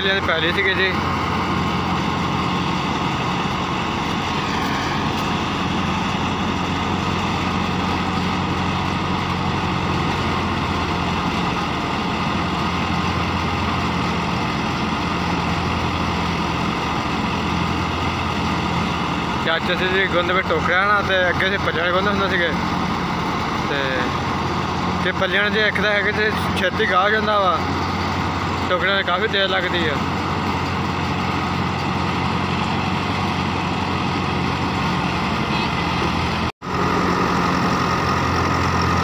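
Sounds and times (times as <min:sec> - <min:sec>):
thresher whirring: 0:00.0 - 0:39.0
tractor diesel engine running: 0:00.0 - 0:39.0.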